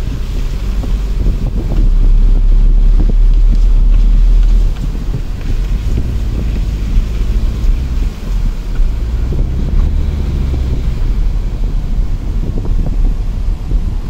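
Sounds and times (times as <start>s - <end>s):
car engine and tyres rumbling: 0.0s - 14.0s
wind buffeting microphone: 0.0s - 14.0s.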